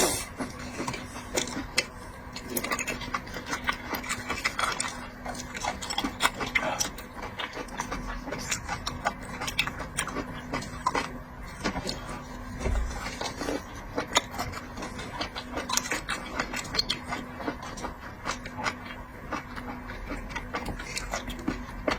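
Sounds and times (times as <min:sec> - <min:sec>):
person chewing seafood: 0:00.0 - 0:21.9.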